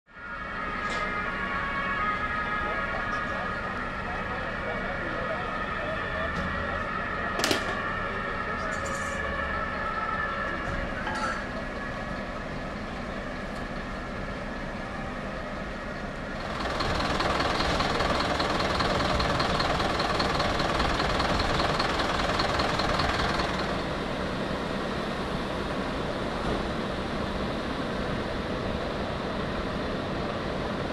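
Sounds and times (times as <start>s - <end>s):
fire engine running: 0.1s - 30.9s.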